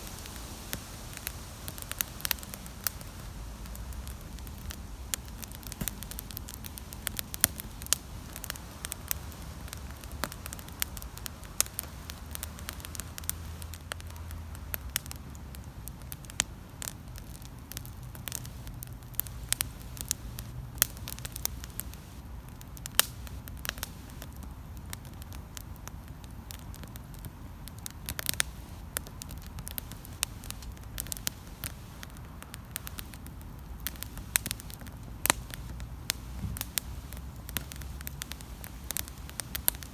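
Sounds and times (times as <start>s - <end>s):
campfire crackling and popping: 0.0s - 39.9s
steady low rumble: 0.0s - 39.9s.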